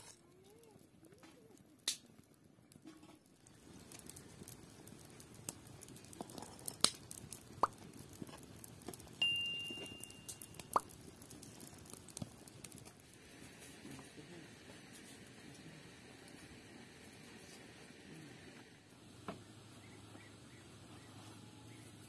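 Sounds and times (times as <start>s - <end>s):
wood fire crackling: 0.0s - 22.0s
syrup boiling and plopping: 0.3s - 19.0s.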